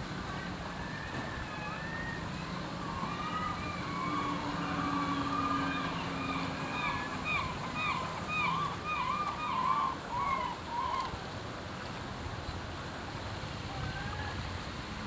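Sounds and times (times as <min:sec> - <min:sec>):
low engine hum: 0:00.0 - 0:15.0
water noise: 0:00.0 - 0:15.0.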